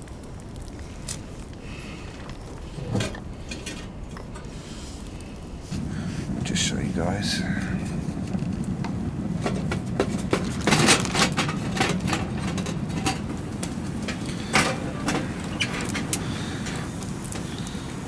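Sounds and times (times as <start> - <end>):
stove low rumble: 0.0 - 18.0
wood fire crackling and popping: 0.0 - 18.0.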